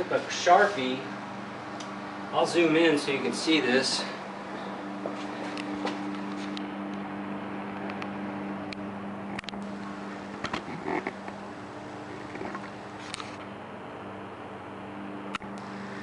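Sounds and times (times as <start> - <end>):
low shop background hum: 0.0 - 16.0.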